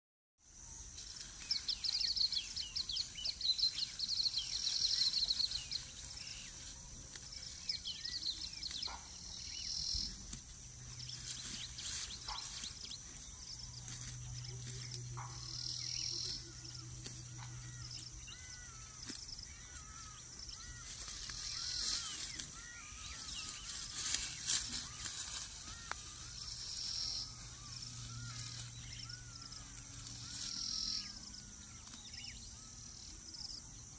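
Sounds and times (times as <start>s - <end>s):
insect chorus: 0.4s - 33.9s
chirping birdsong: 0.8s - 33.9s.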